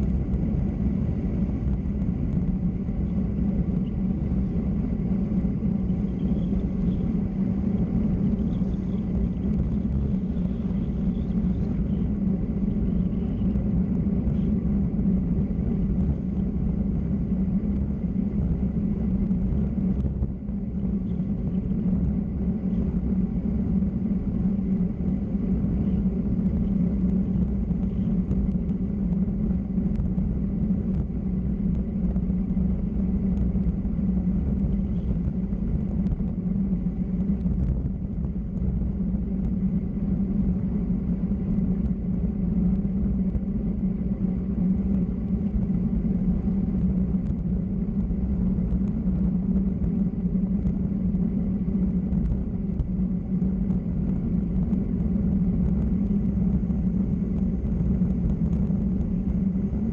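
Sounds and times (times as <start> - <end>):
road noise: 0.0 - 59.9
wind rumble: 0.0 - 59.9.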